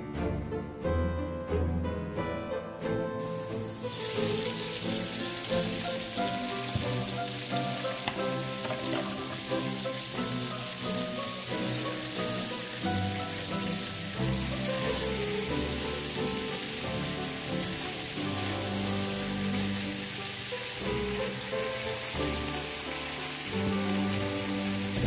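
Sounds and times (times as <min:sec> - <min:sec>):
background music: 0:00.0 - 0:25.0
fish sizzling in hot oil: 0:03.2 - 0:25.0.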